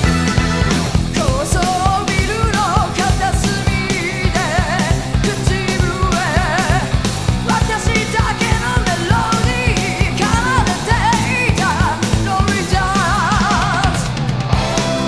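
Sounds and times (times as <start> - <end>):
rock band music: 0.0 - 15.0.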